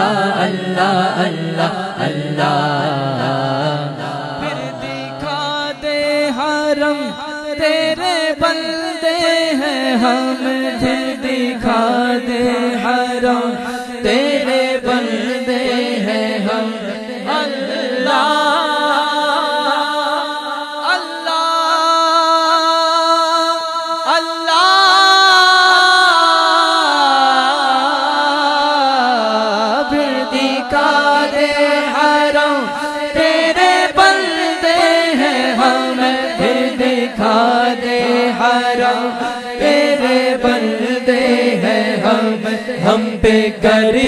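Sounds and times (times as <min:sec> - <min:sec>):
man singing unaccompanied: 0:00.0 - 0:44.0.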